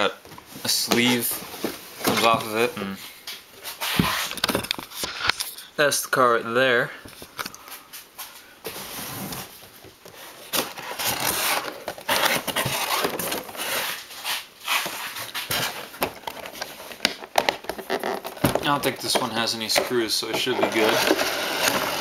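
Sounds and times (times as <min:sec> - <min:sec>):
cardboard and plastic rustling: 0:00.2 - 0:02.7, 0:03.6 - 0:05.5, 0:08.2 - 0:22.0.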